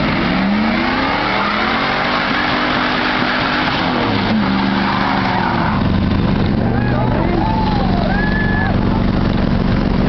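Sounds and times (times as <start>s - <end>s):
dense rushing noise: 0.0s - 10.0s
truck engine at high revs: 0.0s - 10.0s.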